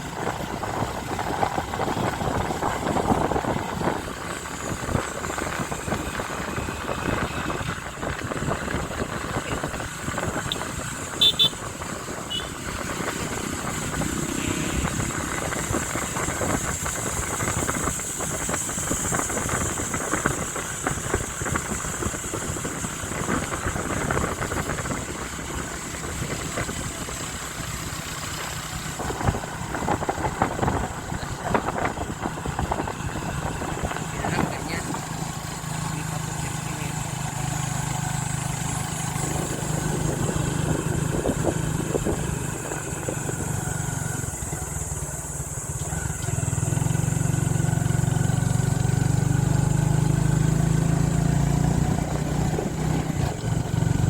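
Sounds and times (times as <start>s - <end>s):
wind on microphone: 0.0s - 45.8s, 50.2s - 54.0s
motorcycle engine: 0.0s - 54.0s.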